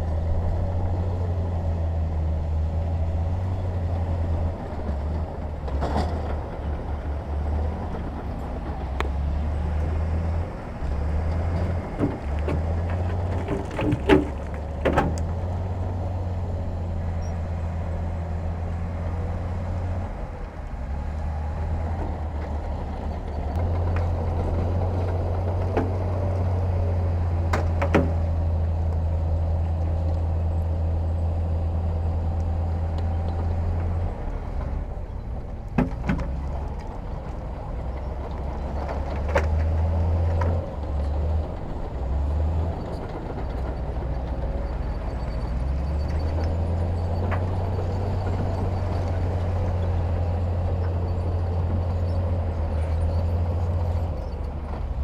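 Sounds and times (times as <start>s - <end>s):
diesel earthmoving machinery droning: 0.0s - 55.0s.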